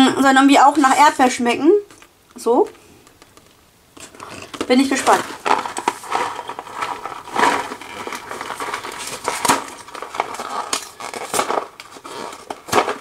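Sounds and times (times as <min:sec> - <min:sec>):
plastic wrapper crinkling: 0:00.7 - 0:13.0.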